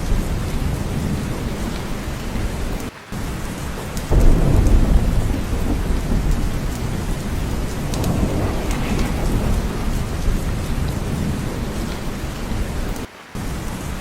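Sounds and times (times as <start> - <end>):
thunder rumbling: 0.0 - 13.1
heavy rain: 0.0 - 14.0
raindrop splats: 0.0 - 14.0.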